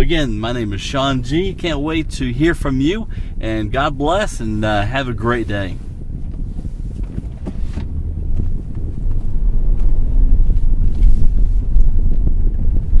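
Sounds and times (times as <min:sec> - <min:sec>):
low rumble inside a car: 0:00.0 - 0:13.0.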